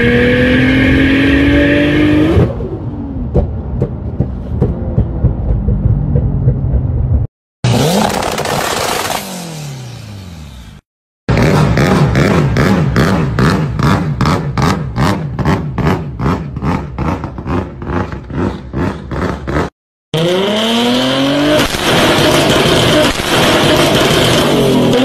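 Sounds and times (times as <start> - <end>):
car engine revving: 4.8 - 25.0.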